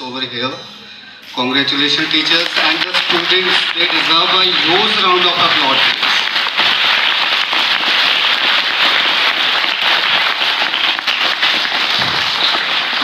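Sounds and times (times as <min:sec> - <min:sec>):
crowd applauding: 0:01.6 - 0:13.0.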